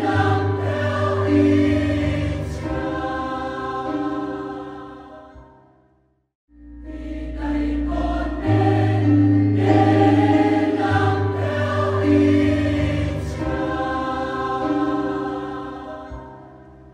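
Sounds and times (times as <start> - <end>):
choir singing final chord: 0.0 - 5.8, 6.8 - 16.9.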